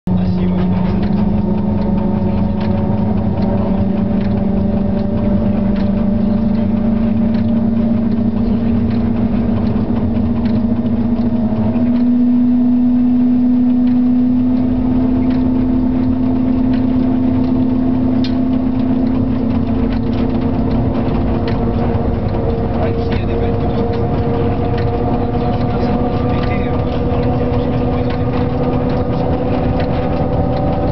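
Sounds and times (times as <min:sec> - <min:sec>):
locomotive cab hum and rumble: 0:00.1 - 0:30.9.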